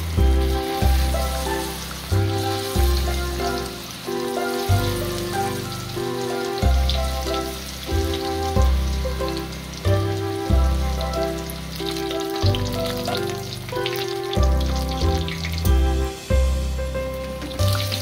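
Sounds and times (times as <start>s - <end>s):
food deep-frying in oil: 0.0s - 18.0s
music with bouncy bass line: 0.0s - 18.0s.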